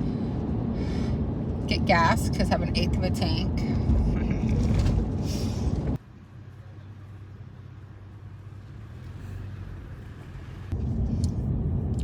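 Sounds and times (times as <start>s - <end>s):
vehicle road and engine noise: 0.0s - 12.0s.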